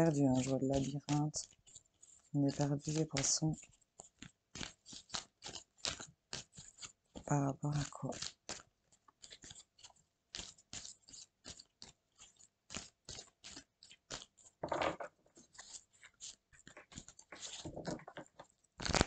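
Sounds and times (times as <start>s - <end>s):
cards being shuffled: 0.0s - 19.0s.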